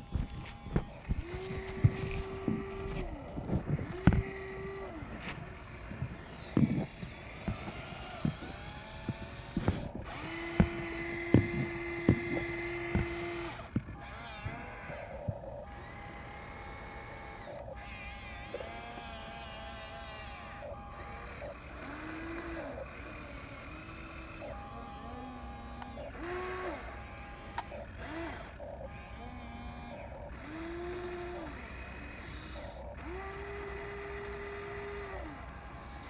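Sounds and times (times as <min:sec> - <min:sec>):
toy excavator electric motors whining: 0:00.0 - 0:36.0.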